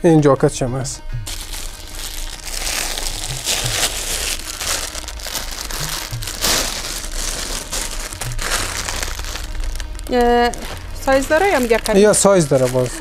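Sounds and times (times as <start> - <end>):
plastic bag crinkling and rustling: 1.2 - 13.0.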